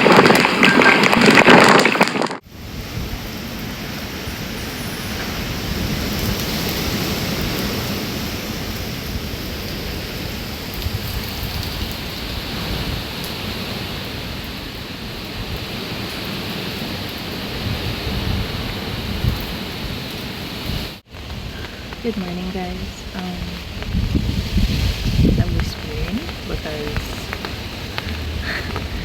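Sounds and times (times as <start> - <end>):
hurricane wind and rain: 0.0 - 29.0.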